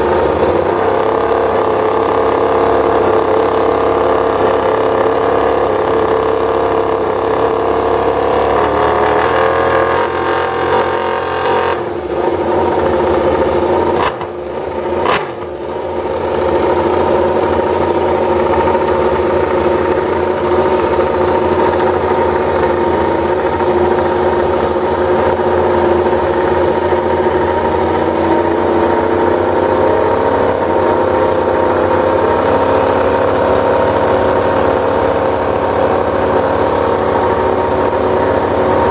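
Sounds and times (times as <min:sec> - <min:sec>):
motorbike engine at high idle: 0:00.0 - 0:38.9.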